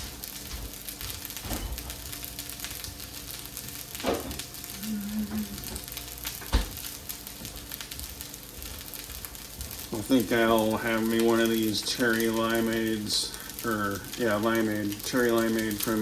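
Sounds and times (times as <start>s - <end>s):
rice sizzling in hot pan: 0.0s - 16.0s.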